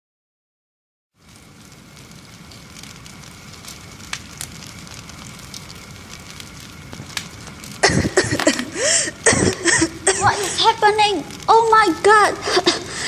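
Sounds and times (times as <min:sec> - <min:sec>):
fire burning and crackling: 0:01.1 - 0:13.0
sharp pops of fire: 0:01.2 - 0:13.0.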